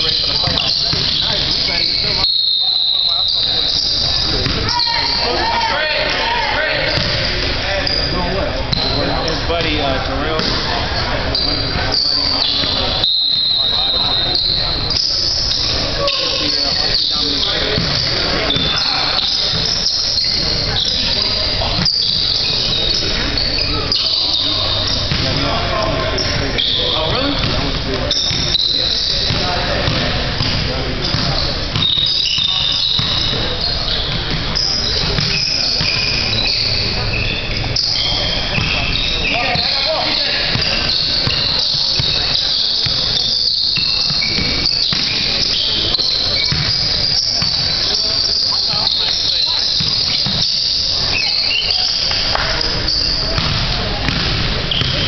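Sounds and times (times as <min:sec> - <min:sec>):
basketball game noise: 0:00.0 - 0:55.0
sneakers squeaking on floor: 0:00.0 - 0:55.0.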